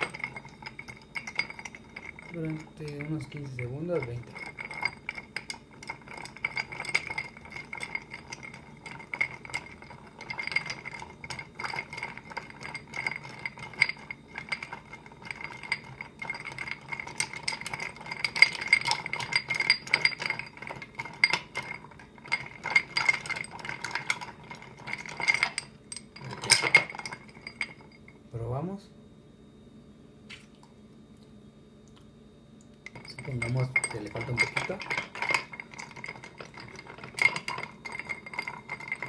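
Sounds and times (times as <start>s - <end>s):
ice clinking in stirred glass: 0.0s - 28.0s, 32.9s - 39.0s.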